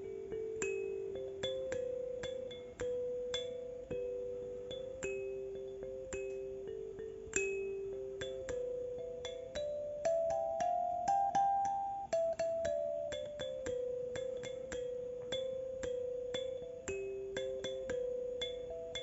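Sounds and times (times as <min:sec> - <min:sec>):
slow keyboard melody: 0:00.0 - 0:19.0.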